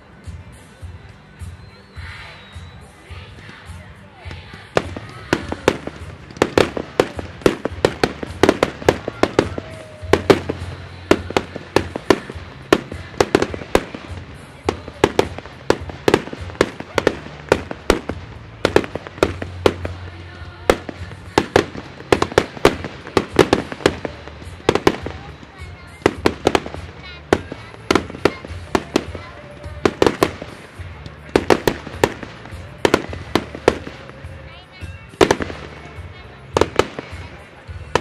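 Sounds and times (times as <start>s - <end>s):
fireworks bangs: 3.2s - 38.0s.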